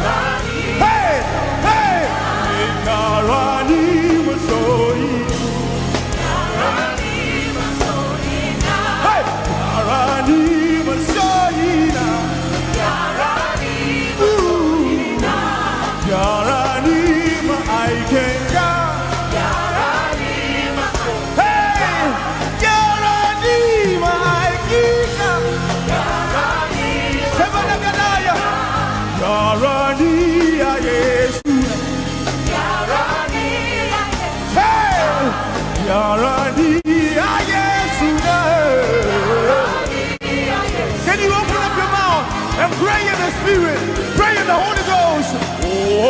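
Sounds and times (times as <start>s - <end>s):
choir singing along: 0.0s - 46.0s
keyboard and bass: 0.0s - 46.0s
lead voice singing: 0.0s - 46.0s.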